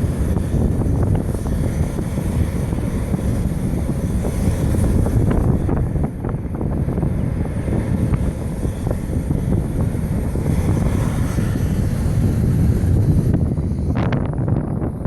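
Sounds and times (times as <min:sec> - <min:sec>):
jet engines rumbling at takeoff: 0:00.0 - 0:15.0
wind buffeting microphone: 0:00.0 - 0:15.0.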